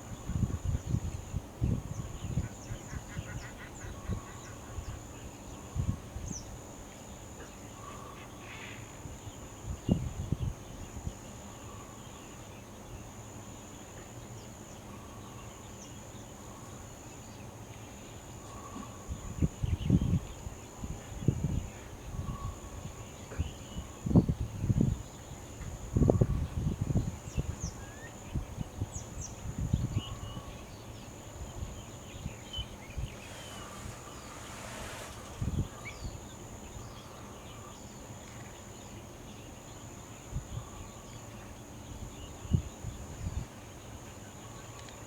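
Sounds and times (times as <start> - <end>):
high insect drone: 0.0 - 45.0.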